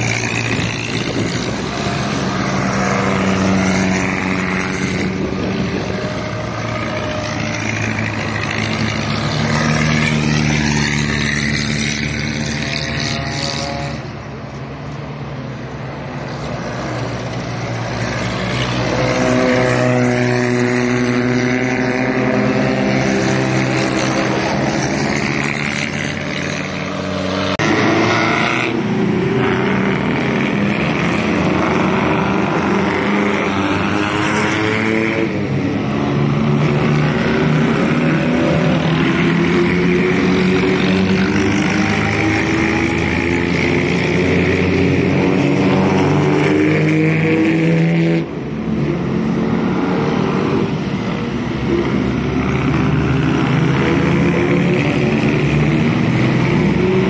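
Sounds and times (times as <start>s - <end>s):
vintage vehicle engines revving: 0.0s - 57.0s.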